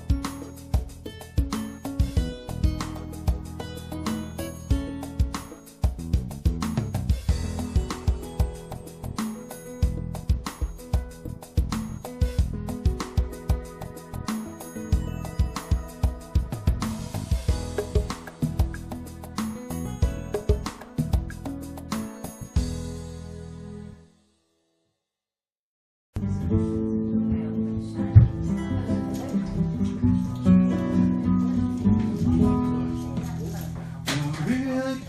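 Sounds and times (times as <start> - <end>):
plucked-string tune with beat: 0.0 - 23.0, 27.3 - 33.4
acoustic guitar music: 0.0 - 24.0, 26.2 - 35.0.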